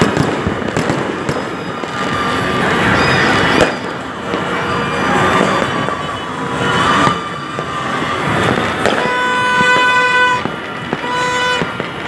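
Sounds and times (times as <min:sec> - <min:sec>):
firecracker and fireworks pops: 0:00.0 - 0:12.0
horn tooting: 0:00.9 - 0:12.0.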